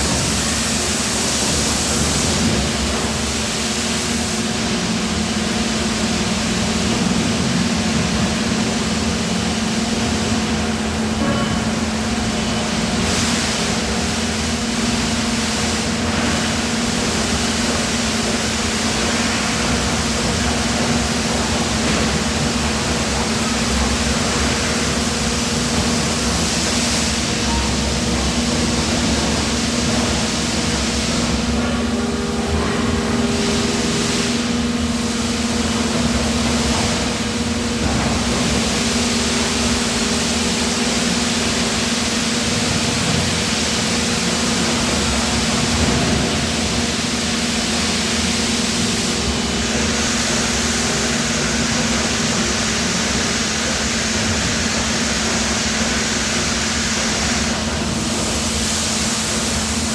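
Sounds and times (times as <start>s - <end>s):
machine hum and hiss: 0.0s - 59.9s.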